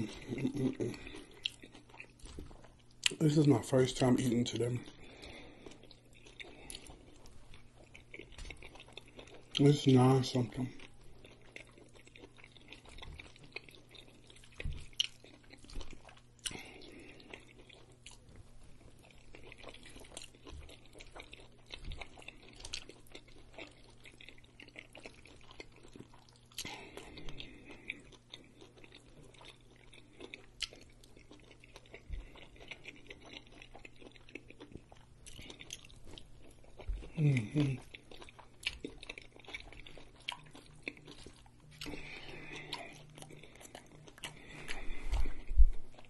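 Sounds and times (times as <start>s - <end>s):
man chewing food: 0.0s - 46.0s.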